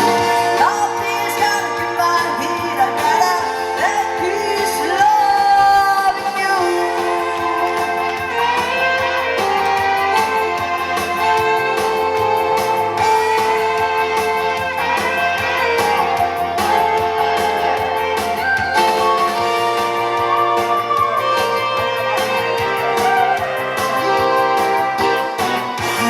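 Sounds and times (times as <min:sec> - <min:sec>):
keytar lead melody: 0:00.0 - 0:02.9, 0:06.6 - 0:26.0
steady drum beat: 0:00.0 - 0:03.3, 0:05.9 - 0:26.0.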